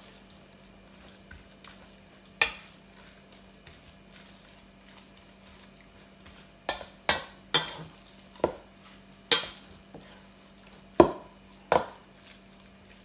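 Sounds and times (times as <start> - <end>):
hand stirring meat mixture: 0.0 - 13.0
meat mixture slapping metal bowl: 0.0 - 13.0.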